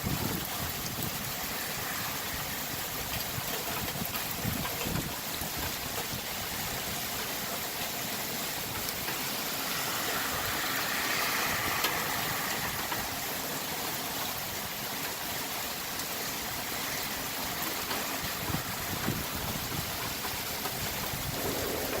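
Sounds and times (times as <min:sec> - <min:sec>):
floodwater rushing: 0:00.0 - 0:22.0
heavy rain downpour: 0:00.0 - 0:22.0.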